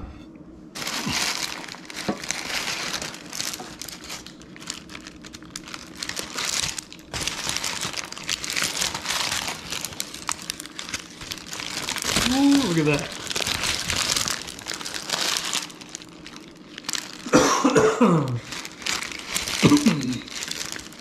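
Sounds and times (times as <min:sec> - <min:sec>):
parchment paper crinkling: 0:00.8 - 0:17.4, 0:18.2 - 0:21.0.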